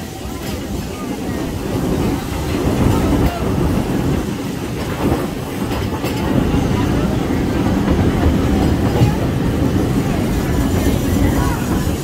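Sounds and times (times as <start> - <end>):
train rumbling on track: 0.0 - 12.0
train wheel clicks: 0.0 - 12.0.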